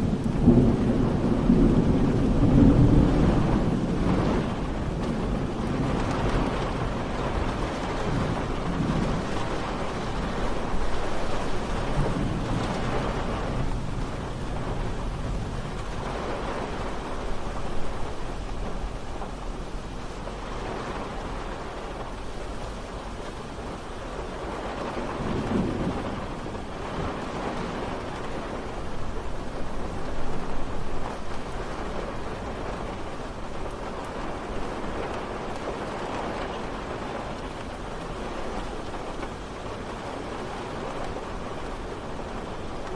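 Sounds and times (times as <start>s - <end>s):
distant thunder rumbles: 0.0s - 42.9s
steady rain falling: 0.0s - 42.9s.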